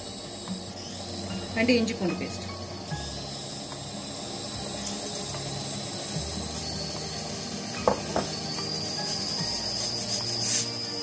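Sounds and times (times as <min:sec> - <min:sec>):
high whine: 0:00.0 - 0:11.0
pressure cooker hissing steam: 0:00.0 - 0:11.0.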